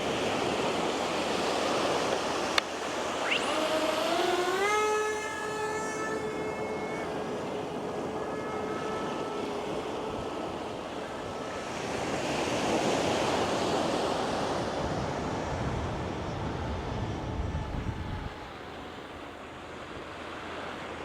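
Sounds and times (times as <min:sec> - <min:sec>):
surf washing on shore: 0:00.0 - 0:17.3
wind on microphone: 0:00.0 - 0:18.8
faint whine: 0:00.0 - 0:21.0.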